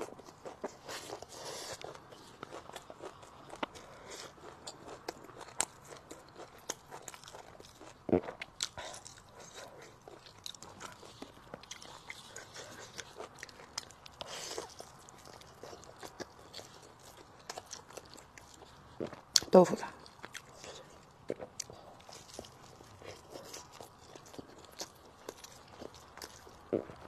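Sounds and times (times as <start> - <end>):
person chewing and eating: 0.0 - 27.0.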